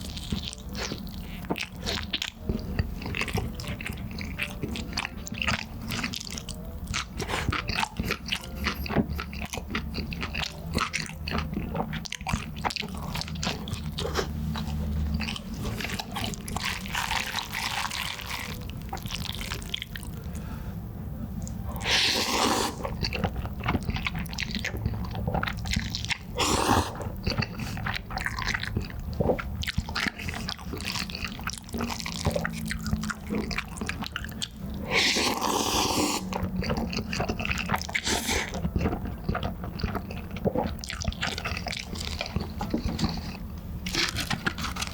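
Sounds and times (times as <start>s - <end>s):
wet chewing with smacks: 0.0s - 20.4s, 21.4s - 44.9s.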